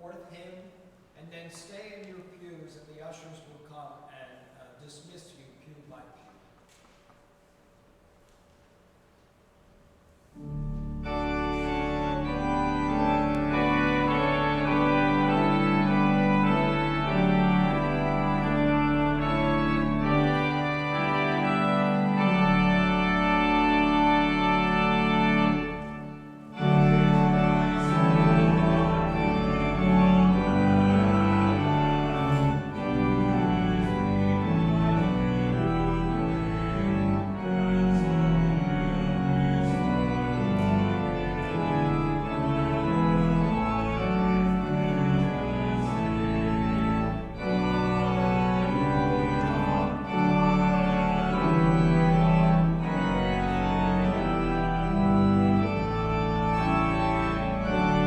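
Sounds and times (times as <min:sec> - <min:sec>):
church organ playing a hymn: 0:10.3 - 0:58.0.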